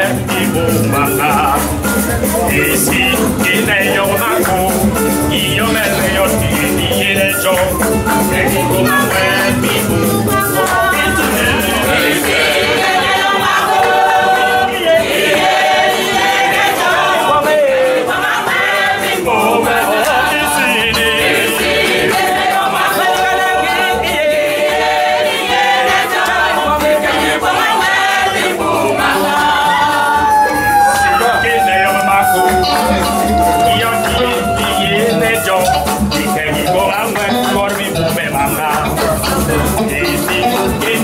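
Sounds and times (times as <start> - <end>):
church choir singing: 0.0 - 41.0.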